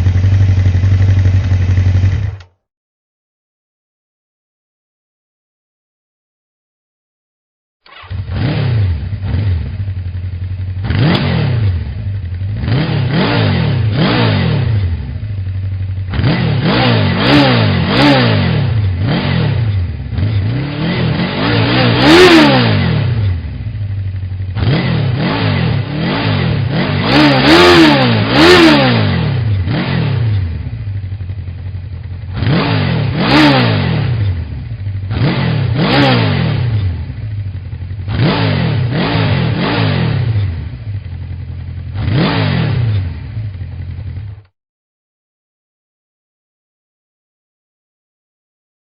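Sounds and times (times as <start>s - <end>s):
motorcycle engine revving: 0.0s - 2.6s, 7.8s - 44.5s.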